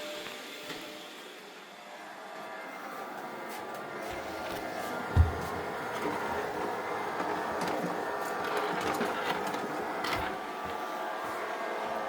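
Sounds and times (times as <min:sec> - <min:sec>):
robot vacuum cleaner whirring: 0:00.0 - 0:12.0.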